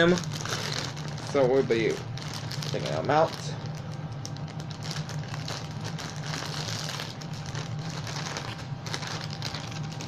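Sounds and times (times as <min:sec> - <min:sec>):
packaging clicks and rustles: 0:00.0 - 0:10.0
steady low hum: 0:00.0 - 0:10.0.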